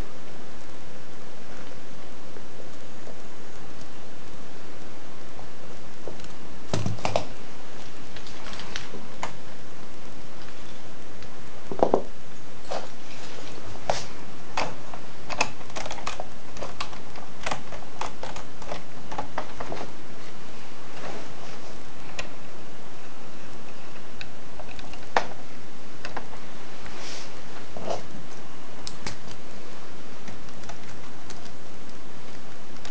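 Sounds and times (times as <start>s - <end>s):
steady hiss: 0.0s - 32.9s.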